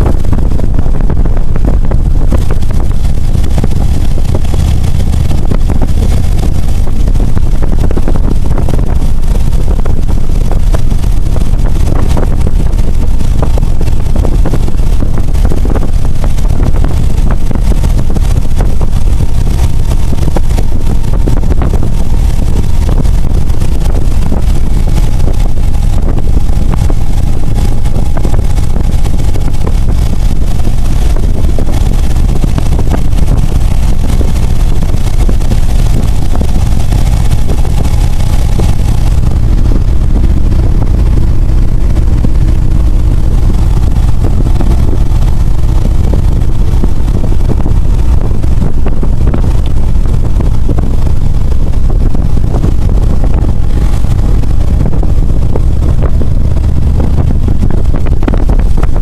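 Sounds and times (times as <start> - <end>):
motorcycle engine running: 0.0 - 59.0
wind rumble on microphone: 0.0 - 59.0.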